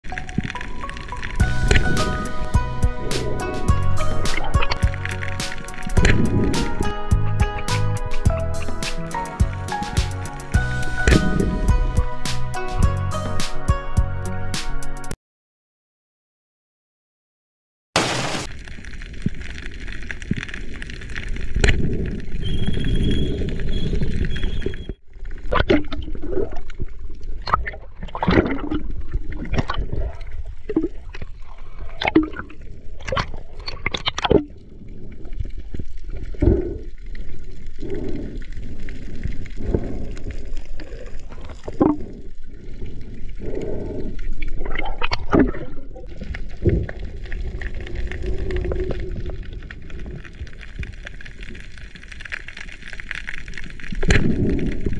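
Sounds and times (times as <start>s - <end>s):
water gurgling underwater: 0.0s - 9.9s, 10.5s - 11.8s, 18.6s - 54.9s.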